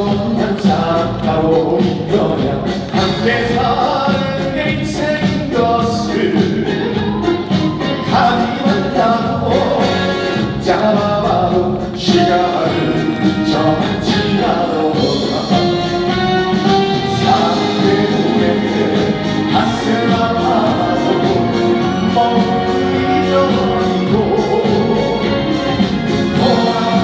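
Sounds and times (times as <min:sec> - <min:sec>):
band playing: 0:00.0 - 0:27.0
person singing: 0:00.0 - 0:27.0.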